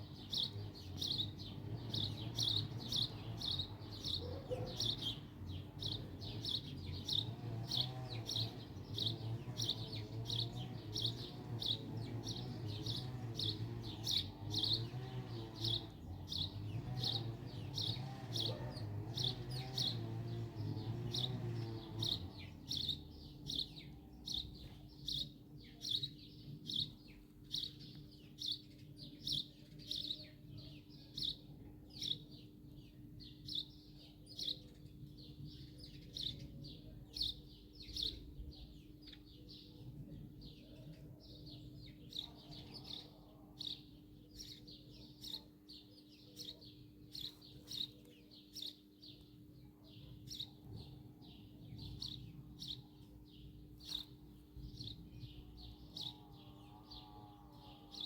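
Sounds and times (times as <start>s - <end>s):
small bird chirping: 0.0s - 58.0s.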